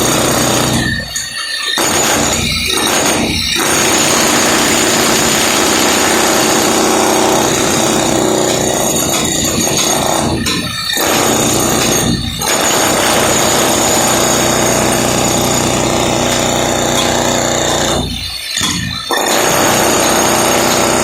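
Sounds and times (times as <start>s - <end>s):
hammer drill breaking floor: 0.0s - 21.0s.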